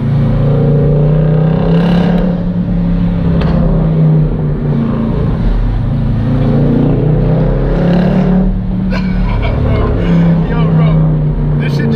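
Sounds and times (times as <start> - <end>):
loud car engine and exhaust: 0.0 - 11.9.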